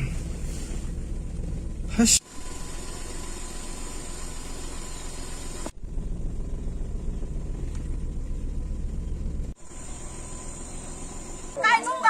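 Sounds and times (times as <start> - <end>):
vehicle engine running low: 0.0 - 11.6.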